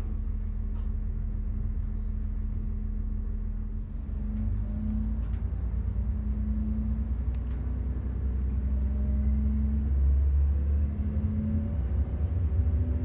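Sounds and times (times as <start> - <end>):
railcar engine and running rumble: 0.0 - 13.0.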